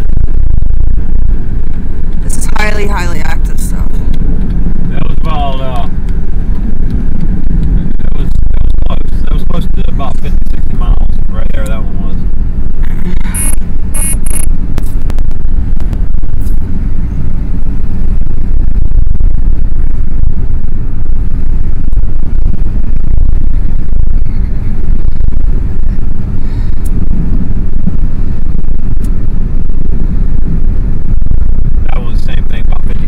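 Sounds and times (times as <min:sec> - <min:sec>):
car driving rumble inside cabin: 0:00.0 - 0:33.0.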